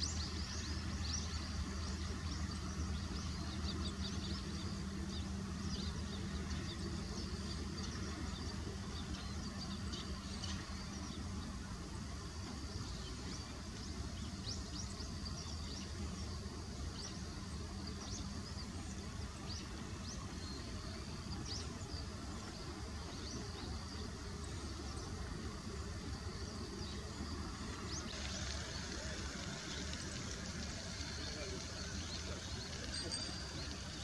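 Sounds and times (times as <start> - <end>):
faint high whine: 0.0 - 34.0
small birds chirping: 0.0 - 34.0.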